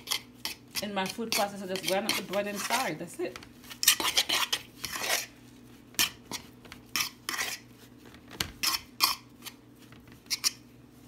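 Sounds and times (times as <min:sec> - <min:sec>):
hands mixing in a bowl: 0:00.0 - 0:11.0.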